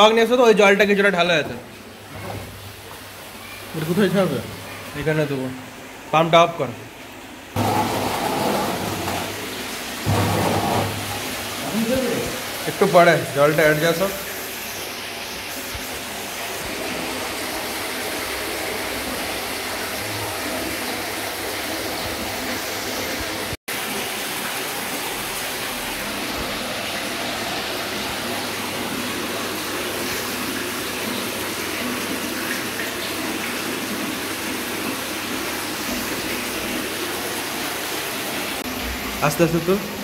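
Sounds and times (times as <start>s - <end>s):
water running: 0.0s - 40.0s.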